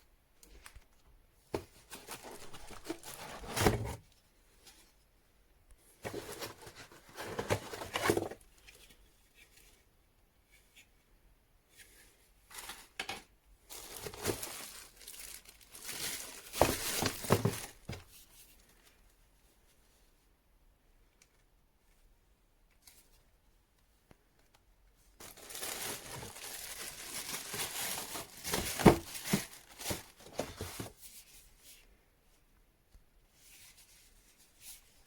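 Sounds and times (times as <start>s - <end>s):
crinkling and rustling handling noise: 0.2s - 35.0s.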